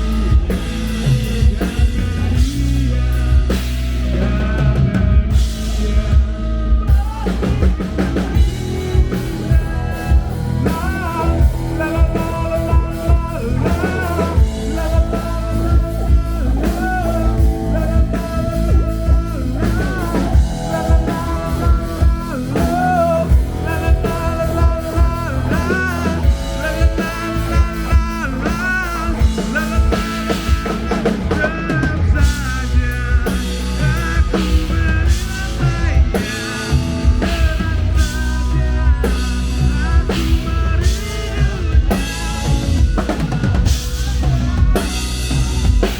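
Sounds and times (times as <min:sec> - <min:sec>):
bending melody line: 0:00.0 - 0:45.9
drum kit beat: 0:00.0 - 0:45.9
guitars: 0:00.0 - 0:45.9.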